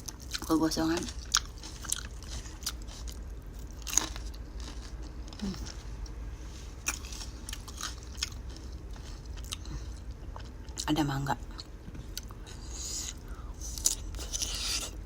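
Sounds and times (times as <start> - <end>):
chewing crisp food: 0.0 - 15.0
steady low hum: 0.0 - 15.0.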